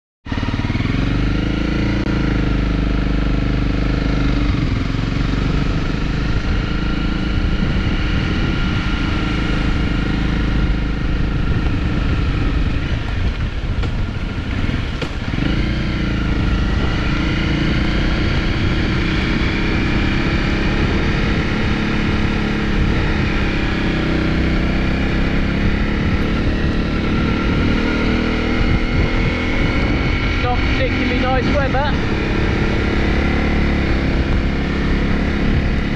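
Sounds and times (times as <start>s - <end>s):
motorcycle engine running: 0.2s - 35.9s.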